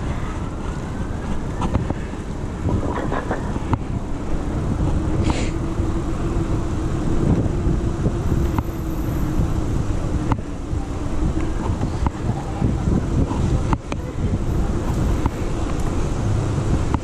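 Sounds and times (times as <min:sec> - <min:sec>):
rumble of wind and tyres: 0:00.0 - 0:17.0
steady hum: 0:00.0 - 0:17.0.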